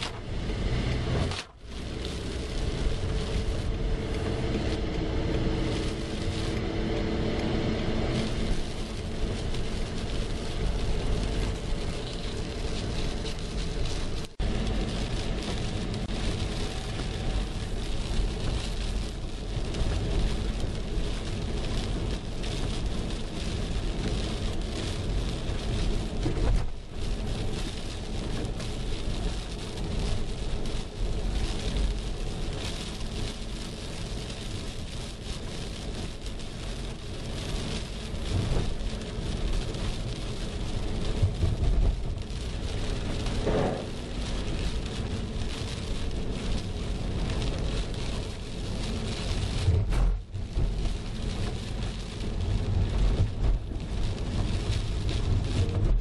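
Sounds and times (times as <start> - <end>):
rain on a car windshield: 0.0 - 56.0
tyres rumbling on wet road: 0.0 - 56.0.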